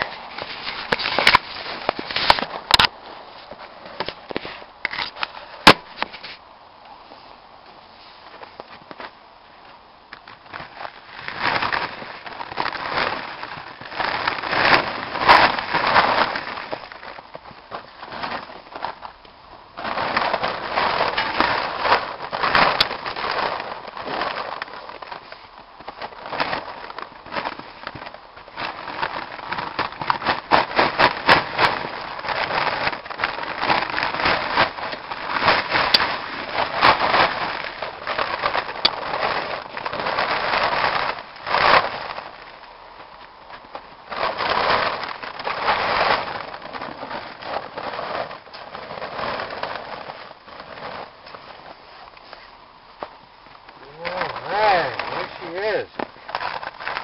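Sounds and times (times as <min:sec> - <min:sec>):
plastic tarp crinkling: 0:00.0 - 0:06.5, 0:08.0 - 0:57.0.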